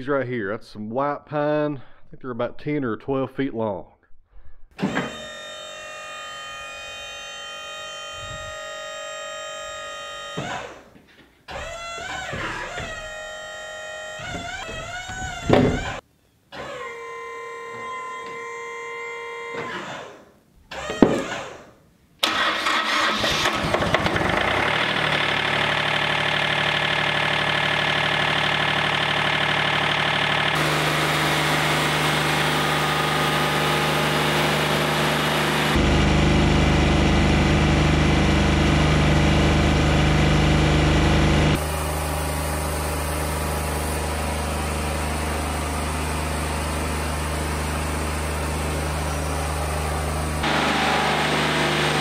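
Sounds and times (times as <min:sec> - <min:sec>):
sawmill engine starting and running: 0:04.8 - 0:10.9, 0:11.5 - 0:16.0, 0:16.6 - 0:21.6, 0:22.2 - 0:52.0.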